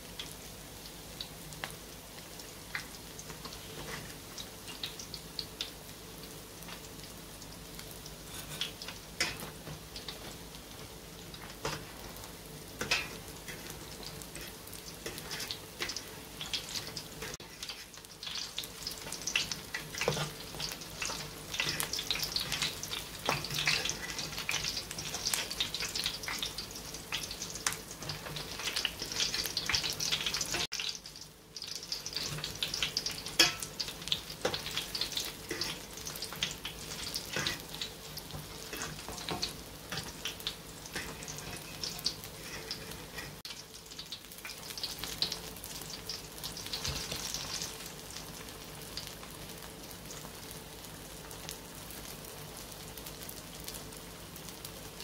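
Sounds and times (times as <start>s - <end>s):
pancakes frying in hot oil: 0.0s - 55.0s.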